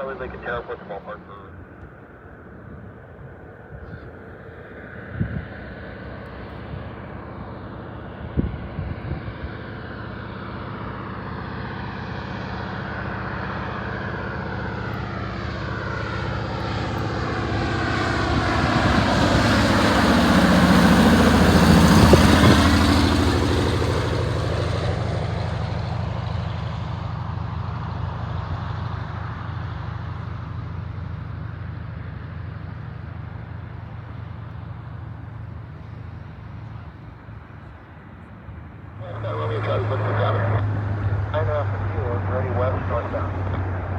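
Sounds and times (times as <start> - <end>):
floatplane engine and propeller passing: 0.0 - 43.9.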